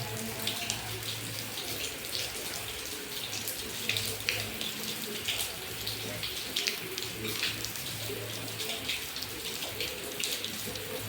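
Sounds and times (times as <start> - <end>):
steady rain: 0.0 - 11.0
water dripping and splashing: 0.0 - 11.0.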